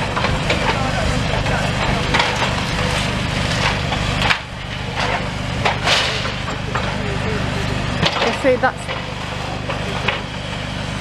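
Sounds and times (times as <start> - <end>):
wood splintering and crunching: 0.0 - 10.7
diesel engine drone: 0.0 - 11.0.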